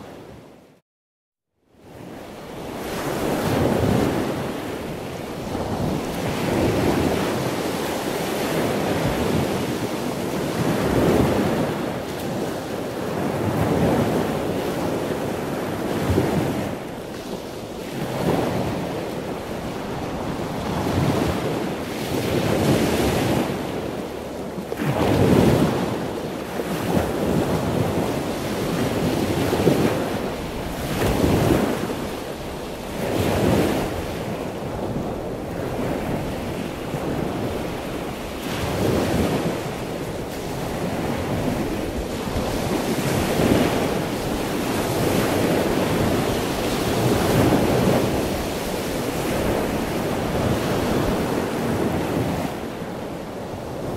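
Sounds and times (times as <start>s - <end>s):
ocean waves breaking: 1.9s - 53.9s.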